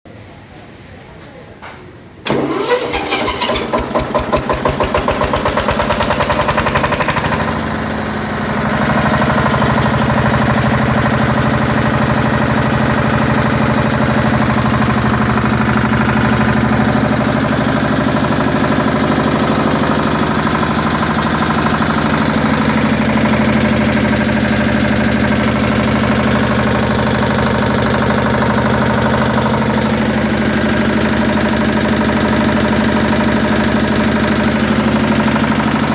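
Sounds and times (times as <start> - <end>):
diesel generator engine running: 2.2 - 35.9.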